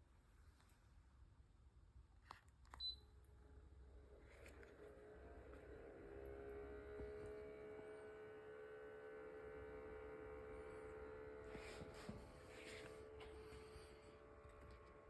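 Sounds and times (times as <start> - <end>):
humidifier humming whine: 2.8 - 15.0.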